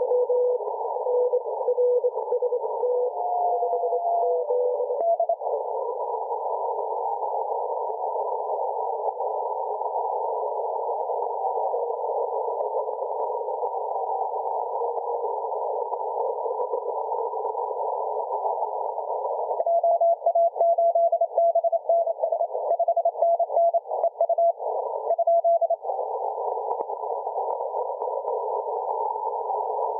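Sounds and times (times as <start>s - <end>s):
radio band noise hiss: 0.0s - 3.0s, 5.4s - 19.9s, 22.0s - 29.9s.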